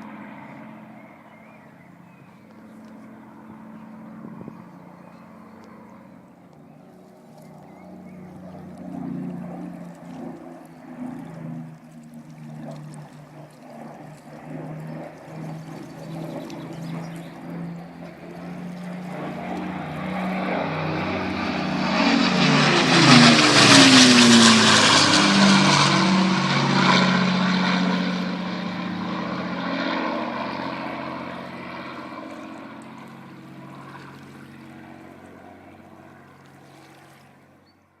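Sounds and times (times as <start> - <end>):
propeller aircraft flying overhead: 0.0 - 38.0.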